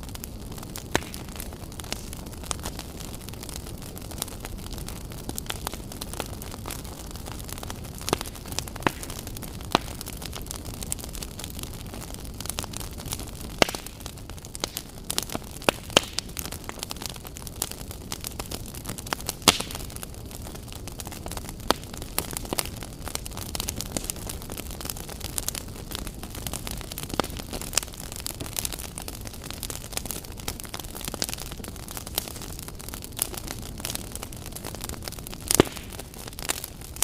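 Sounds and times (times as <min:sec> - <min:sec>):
fire hissing: 0:00.0 - 0:37.0
sharp fire pops: 0:00.0 - 0:37.0
wood fire crackling: 0:00.0 - 0:37.0.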